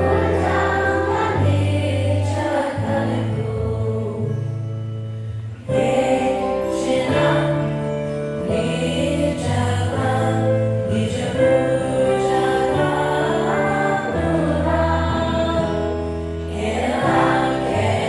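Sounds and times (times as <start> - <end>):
choir singing with accompaniment: 0.0 - 4.6, 5.6 - 18.0.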